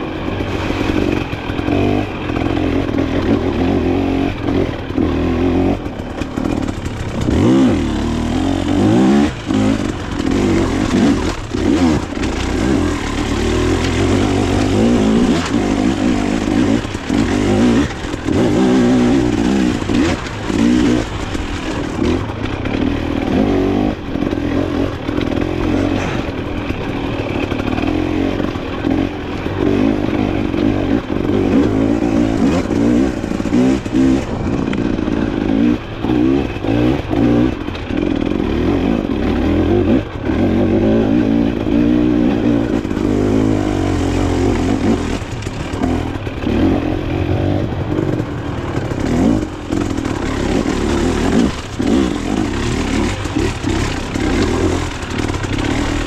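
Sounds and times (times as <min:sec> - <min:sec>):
bike rattling and clattering: 0:00.0 - 0:56.0
dirt bike engine revving: 0:00.0 - 0:56.0.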